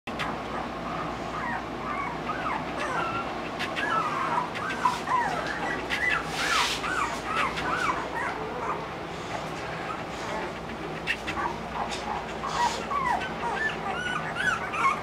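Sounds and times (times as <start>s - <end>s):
puppies whimpering: 0.2s - 15.0s.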